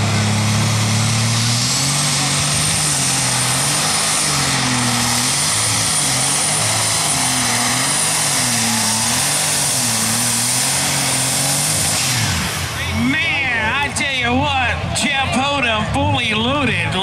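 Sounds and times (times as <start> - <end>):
diesel truck engine revving: 0.0 - 17.0.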